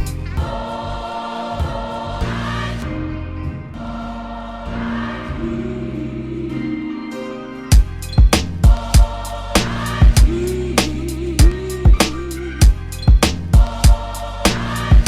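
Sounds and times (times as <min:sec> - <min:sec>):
slow choir-like sung chords: 0:00.0 - 0:15.0.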